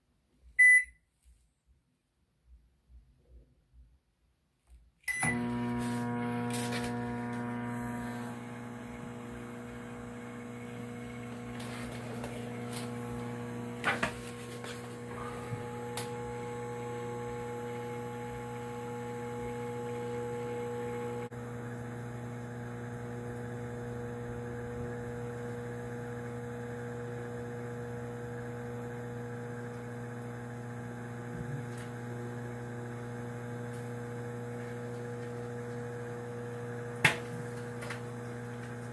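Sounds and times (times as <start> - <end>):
microwave oven humming: 5.1 - 38.9.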